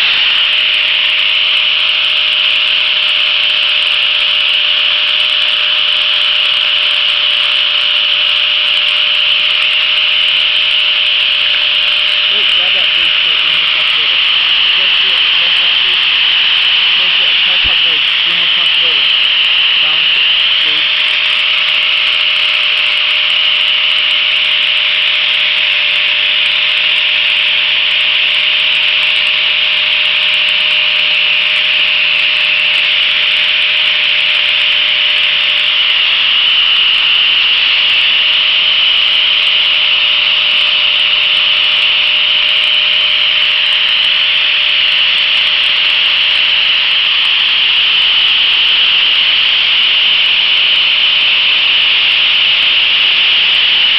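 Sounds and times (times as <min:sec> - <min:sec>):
angle grinder sanding wood: 0:00.0 - 0:52.2.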